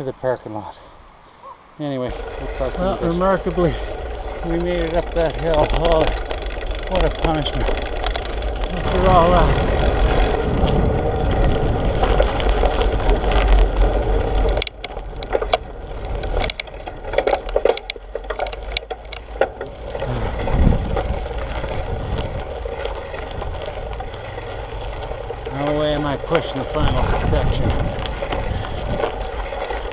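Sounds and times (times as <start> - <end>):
tyres crunching over gravel: 1.9 - 29.9
bike clicks and rattles: 2.1 - 29.9
wind rumble on microphone: 2.4 - 18.8, 19.4 - 29.9.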